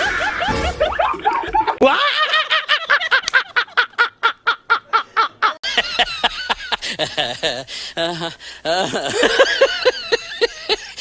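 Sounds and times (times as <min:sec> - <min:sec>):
person cackling laughter: 0:00.0 - 0:11.0.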